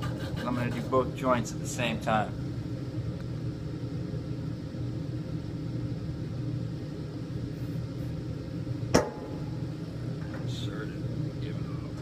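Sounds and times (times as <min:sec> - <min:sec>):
workshop low hum: 0:00.0 - 0:12.0.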